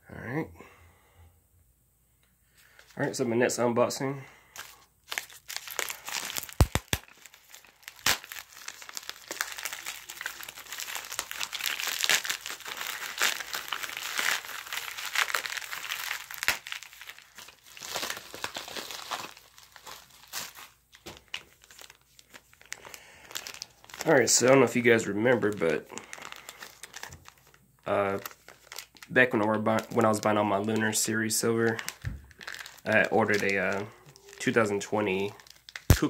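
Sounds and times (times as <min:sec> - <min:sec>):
plastic packaging crinkling: 0:04.5 - 0:36.0.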